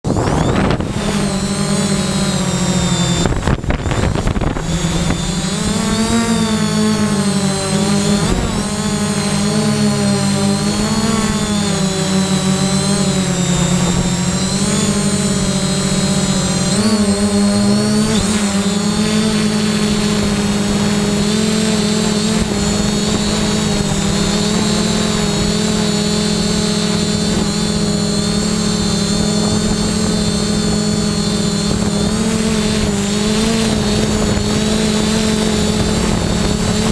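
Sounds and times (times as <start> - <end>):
drone propellers whining: 0.0 - 36.9.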